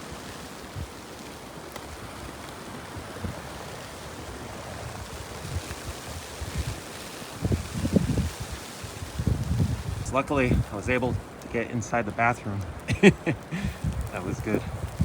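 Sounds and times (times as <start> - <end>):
storm wind blowing: 0.0 - 15.0
wind gusts buffeting microphone: 0.0 - 15.0.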